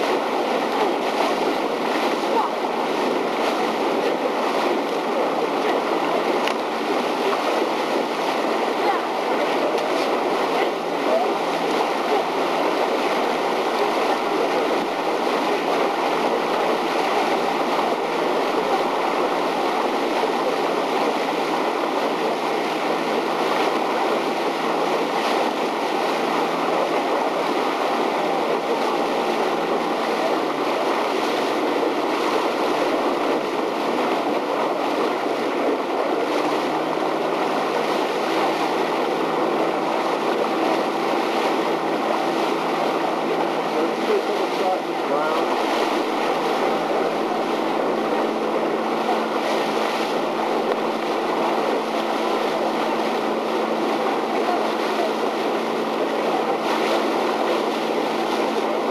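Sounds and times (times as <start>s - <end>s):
boat engine hum: 0.0s - 58.9s
rush of water and wind: 0.0s - 58.9s.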